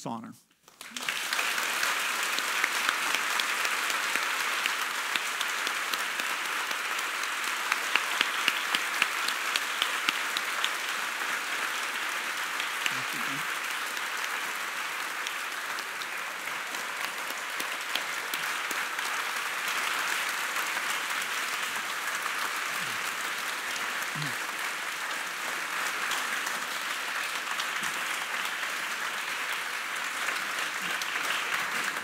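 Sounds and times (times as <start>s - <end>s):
audience applauding: 0.7s - 32.0s.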